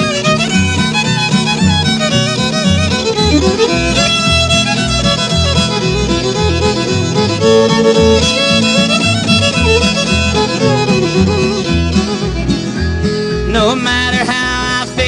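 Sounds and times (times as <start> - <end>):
country band playing: 0.0 - 15.0
fiddle melody: 0.0 - 15.0.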